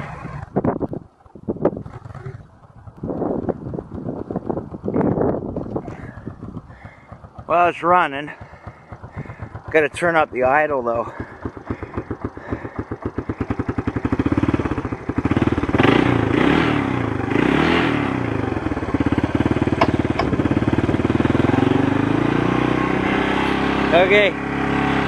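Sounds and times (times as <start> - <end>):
quad engine idling and revving: 0.0 - 25.0.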